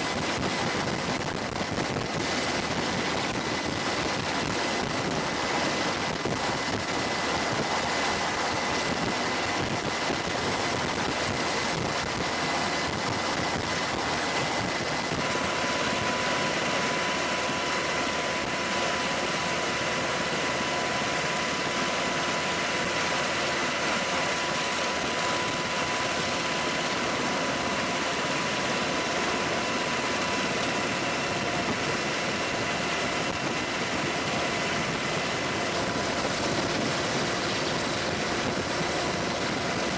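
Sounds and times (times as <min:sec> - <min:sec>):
helicopter turbine engines whining: 0:00.0 - 0:39.9.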